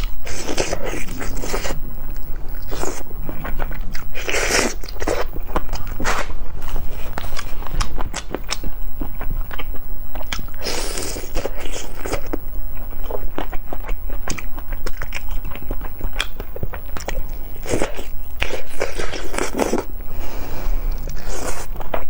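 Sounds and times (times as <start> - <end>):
biting and chewing: 0.0 - 20.1.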